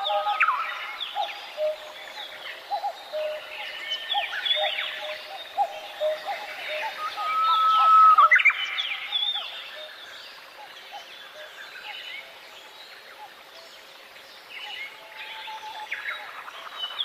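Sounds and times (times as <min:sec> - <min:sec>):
birds singing and chirping: 0:00.0 - 0:17.0.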